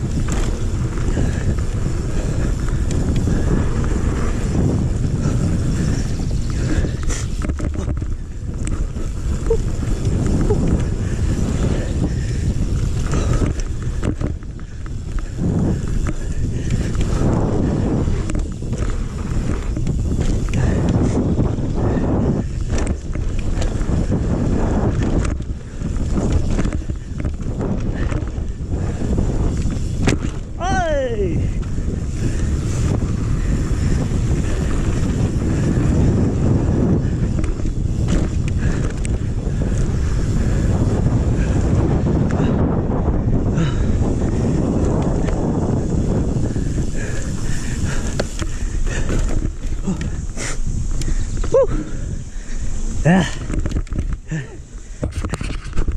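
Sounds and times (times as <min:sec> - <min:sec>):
tyres rolling over dirt: 0:00.0 - 0:42.4, 0:43.0 - 0:55.9
bike rattles: 0:00.0 - 0:55.9
wind buffeting microphone: 0:00.0 - 0:55.9.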